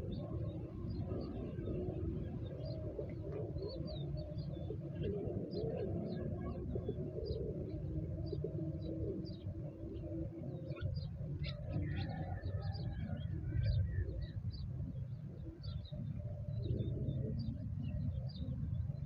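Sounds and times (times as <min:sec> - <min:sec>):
low wavering bird calls: 0:00.0 - 0:19.0.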